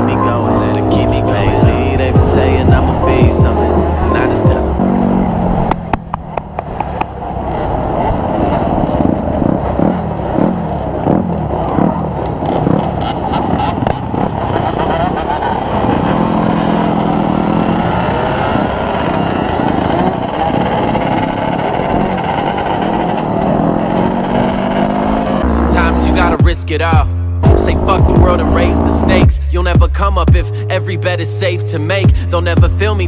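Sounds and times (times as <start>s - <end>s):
dirt bike engines revving: 0.0s - 30.8s.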